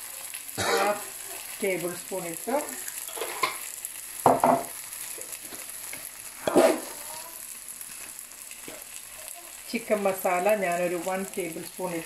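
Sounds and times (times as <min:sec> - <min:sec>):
faint sizzle in pan: 0:00.0 - 0:12.0.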